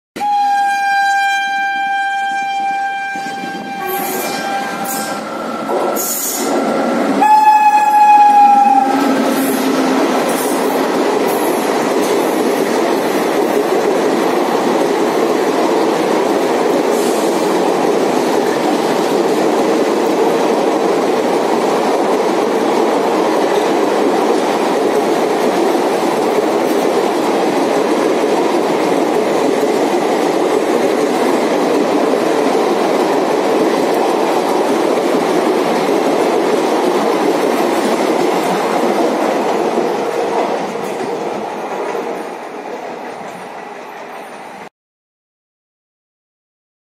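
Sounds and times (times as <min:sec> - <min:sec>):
train wheels rushing over rails: 0:03.2 - 0:44.7.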